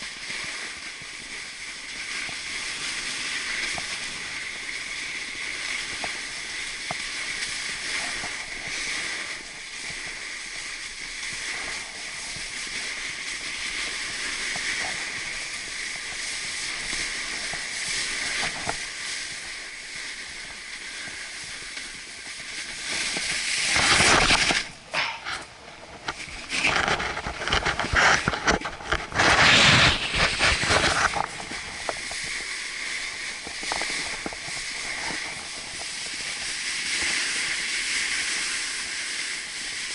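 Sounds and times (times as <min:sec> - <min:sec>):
snowboard scraping snow: 0:00.0 - 0:39.9.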